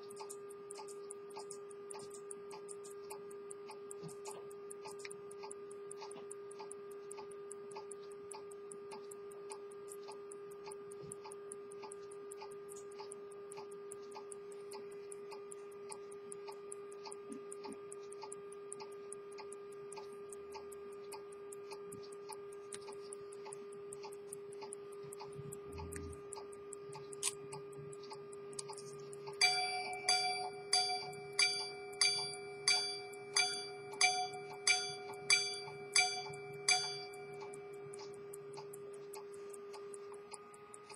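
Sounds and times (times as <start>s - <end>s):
pocket watch ticking: 0.0s - 40.9s
repeat mechanism click: 0.0s - 40.9s.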